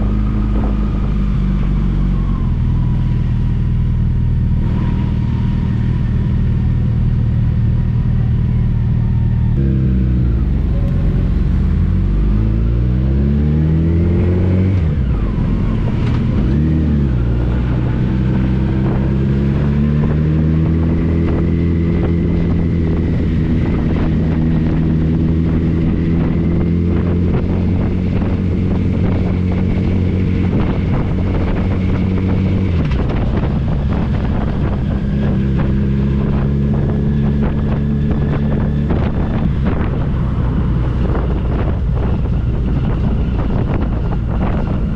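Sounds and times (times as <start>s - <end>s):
motorcycle engine: 0.0s - 44.9s
wind noise: 0.0s - 44.9s.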